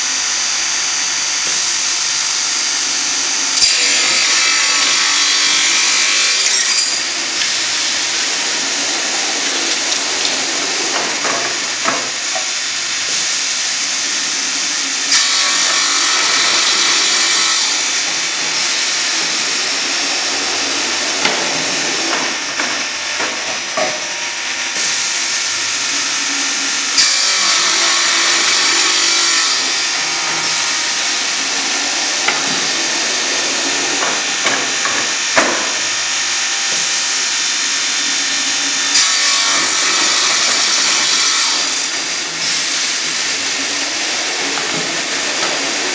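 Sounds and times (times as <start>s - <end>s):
saw cutting wooden panels: 0.0s - 45.9s.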